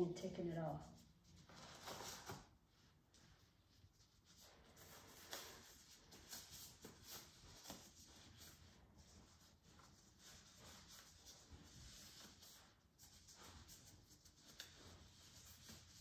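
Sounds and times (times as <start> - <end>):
rustling of disposable gloves: 0.0 - 16.0.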